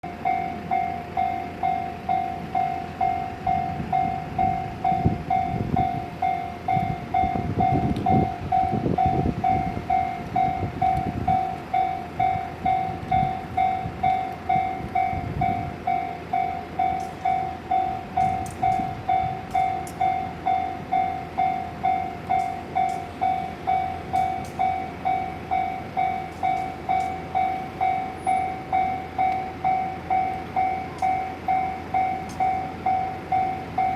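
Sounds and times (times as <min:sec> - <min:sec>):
electric train rumbling: 0:00.0 - 0:33.9
level crossing warning bell: 0:00.0 - 0:33.9.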